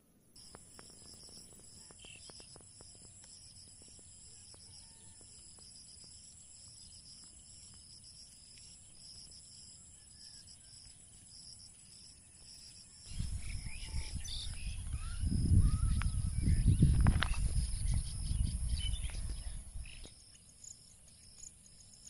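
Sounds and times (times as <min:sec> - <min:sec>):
insects trilling: 0:00.4 - 0:22.0
pulsing insect chirp: 0:00.4 - 0:22.0.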